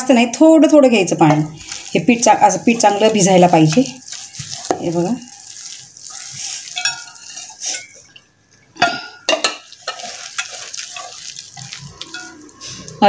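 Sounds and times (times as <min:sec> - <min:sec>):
hand squelching batter in metal bowl: 0:01.6 - 0:08.7, 0:09.4 - 0:13.0.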